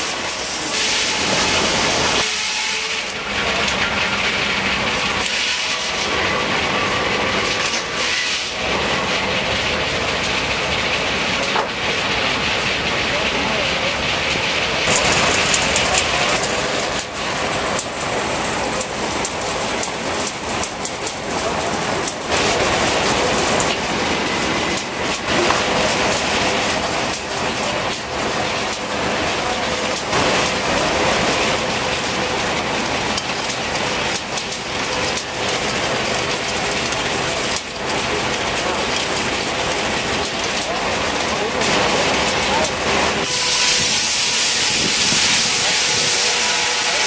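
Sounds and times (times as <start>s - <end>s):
sawmill saw blade clatter and rush: 0.0s - 47.0s.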